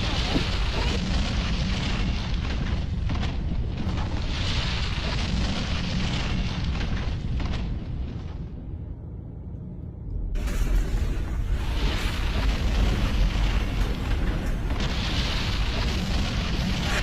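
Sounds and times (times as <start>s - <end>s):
continuous rumbling roar: 0.0s - 17.0s
crackles and clatters: 0.0s - 17.0s.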